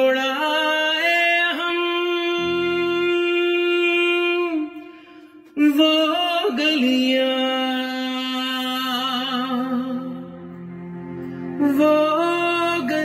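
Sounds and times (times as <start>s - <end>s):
man singing: 0.0s - 10.6s, 11.6s - 13.0s.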